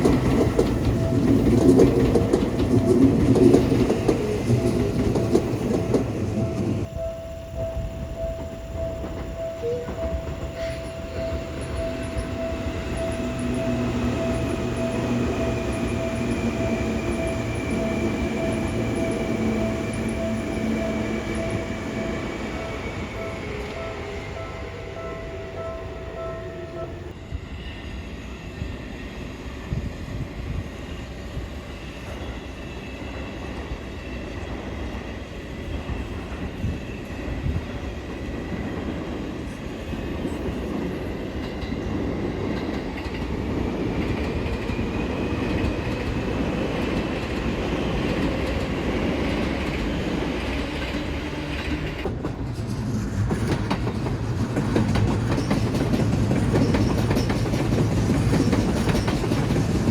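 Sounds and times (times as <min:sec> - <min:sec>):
train wheels clacking on rails: 0:00.0 - 0:26.6, 0:32.0 - 0:59.9.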